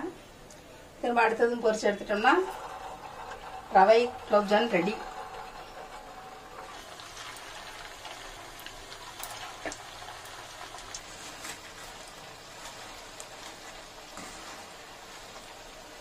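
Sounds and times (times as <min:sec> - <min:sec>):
hot oil sizzling: 0:01.0 - 0:16.0
oil popping and crackling: 0:01.7 - 0:16.0.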